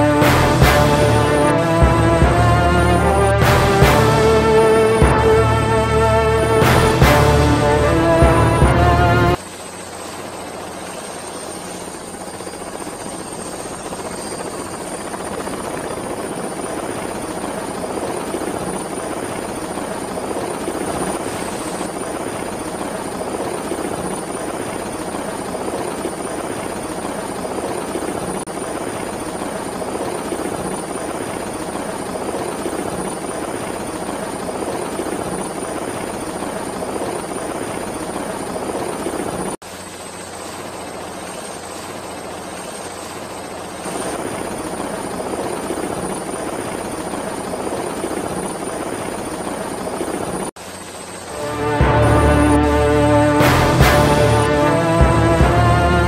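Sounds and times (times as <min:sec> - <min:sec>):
helicopter rotors and engine: 0:00.0 - 0:56.0.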